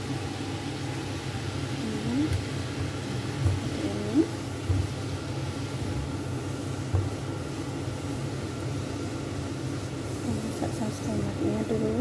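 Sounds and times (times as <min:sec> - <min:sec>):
sauce simmering in a frying pan: 0:00.0 - 0:12.0.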